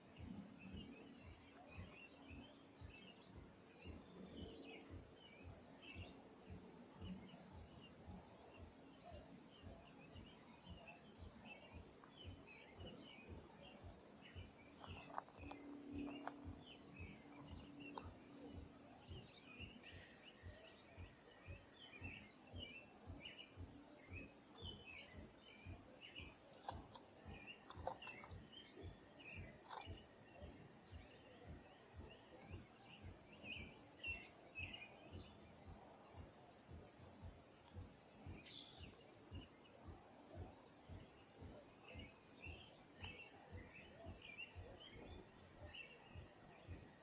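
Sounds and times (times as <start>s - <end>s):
small birds chirping: 0.0s - 47.0s
soft low thuds: 0.2s - 47.0s.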